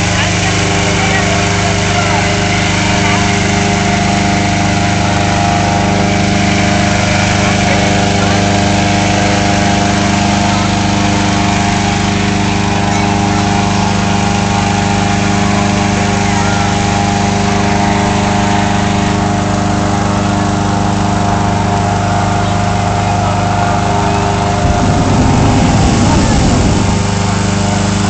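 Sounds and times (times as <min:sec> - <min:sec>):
small engine running steadily: 0:00.0 - 0:28.0.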